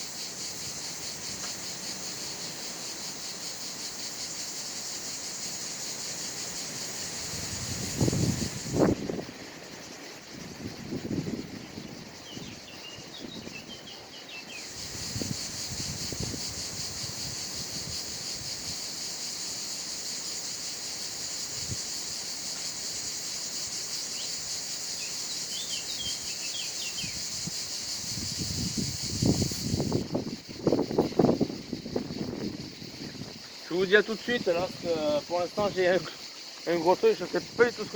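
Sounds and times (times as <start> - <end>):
insect chorus buzzing: 0.0 - 37.9.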